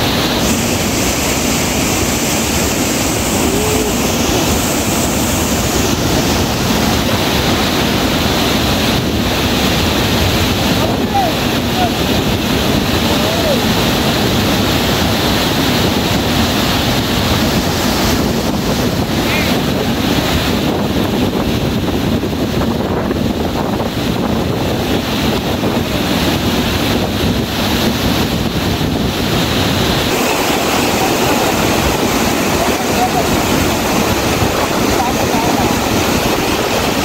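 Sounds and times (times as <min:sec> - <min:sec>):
wind on microphone: 0:00.0 - 0:37.0.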